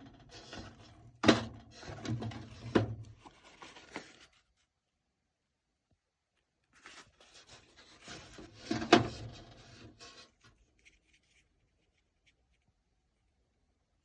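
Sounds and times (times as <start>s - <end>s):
handling rubbing and rustling: 0.0s - 4.6s, 6.6s - 13.3s.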